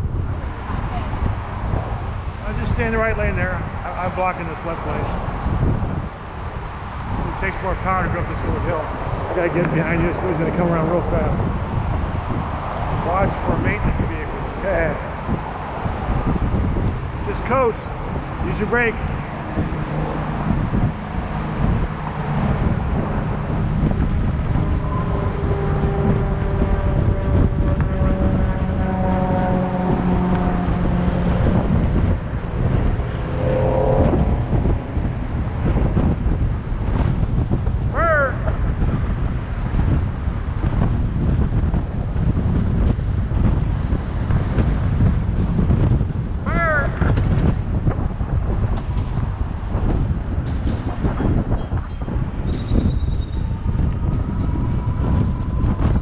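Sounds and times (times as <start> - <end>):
road noise: 0.0 - 56.0
steady whining tone: 0.0 - 56.0
wind buffeting microphone: 0.0 - 56.0.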